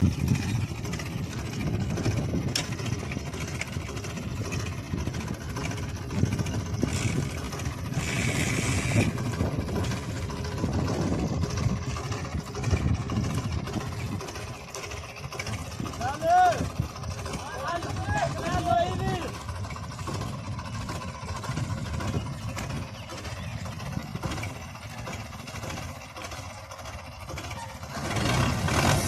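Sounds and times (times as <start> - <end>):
tractor diesel engine rumbling: 0.0 - 29.0.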